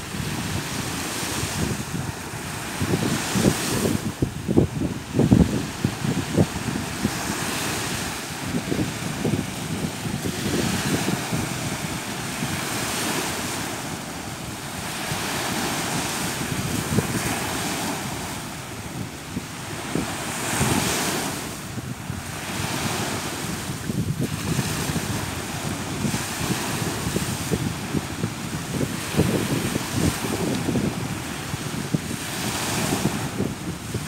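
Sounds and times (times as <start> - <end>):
small waves breaking on shore: 0.0 - 34.0
wind buffeting microphone: 0.0 - 34.0.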